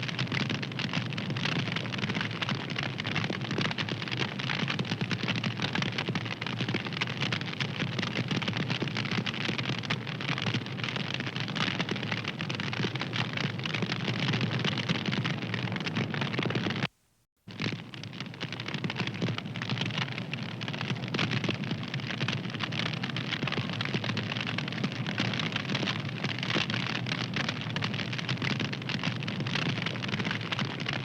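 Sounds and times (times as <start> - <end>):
wood fire crackling: 0.0 - 16.9, 17.5 - 31.0.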